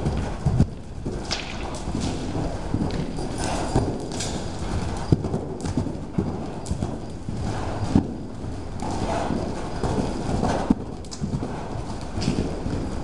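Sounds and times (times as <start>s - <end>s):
horse hoofbeats: 0.0s - 13.0s.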